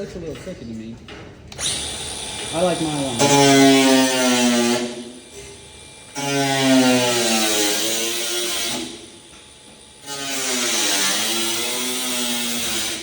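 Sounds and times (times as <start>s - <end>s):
angle grinder cutting: 1.6s - 13.0s.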